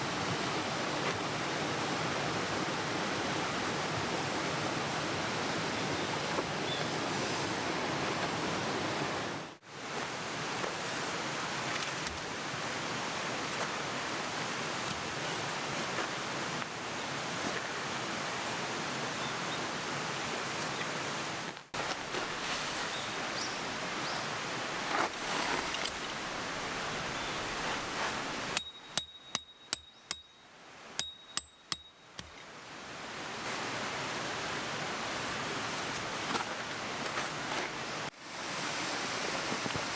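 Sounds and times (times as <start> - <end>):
mountain stream rushing: 0.0 - 28.6, 32.5 - 39.9.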